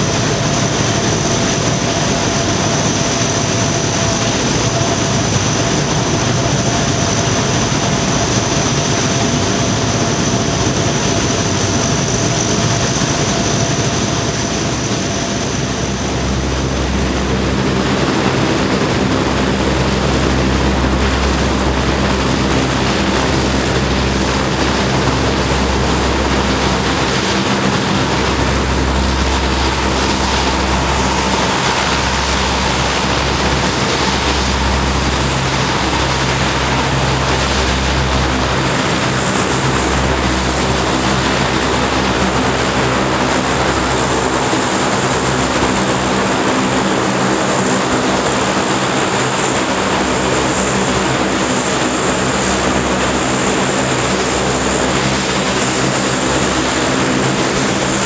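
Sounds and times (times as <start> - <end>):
deep propeller drone: 0.0 - 58.0
turboprop turbine whine: 0.0 - 58.0.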